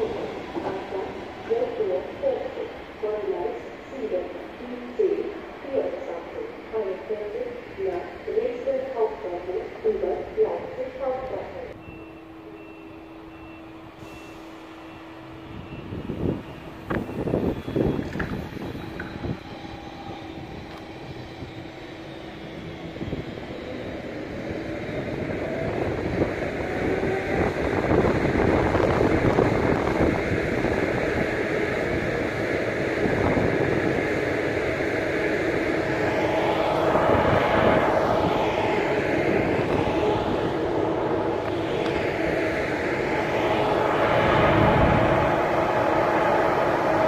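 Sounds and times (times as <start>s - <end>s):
train rumble on tracks: 0.0s - 47.0s
whining tones sweeping: 0.0s - 47.0s.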